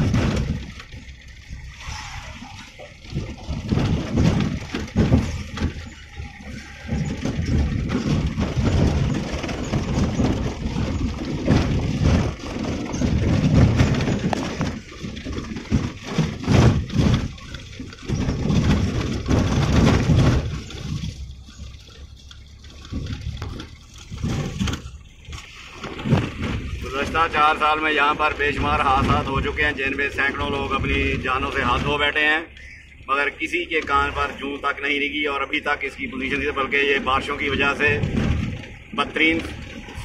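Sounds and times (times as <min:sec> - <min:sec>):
tyres and suspension rumbling: 0:00.0 - 0:40.0.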